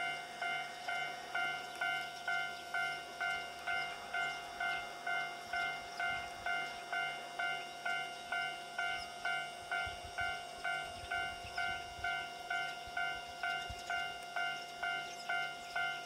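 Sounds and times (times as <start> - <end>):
level-crossing alarm dinging: 0.0 - 16.0.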